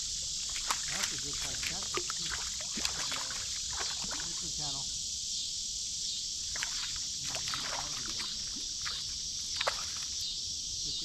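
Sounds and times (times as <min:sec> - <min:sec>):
insect chorus drone: 0:00.0 - 0:11.0.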